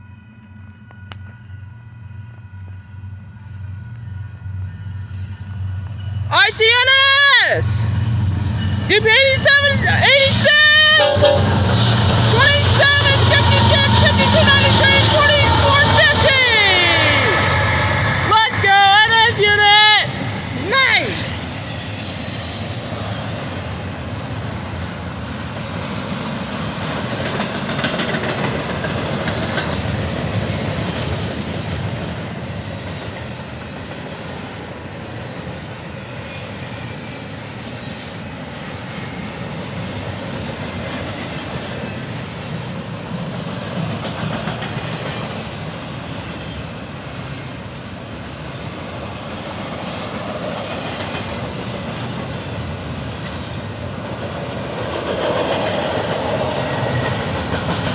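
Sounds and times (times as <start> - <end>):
freight train wheels on rails: 0.0 - 57.9.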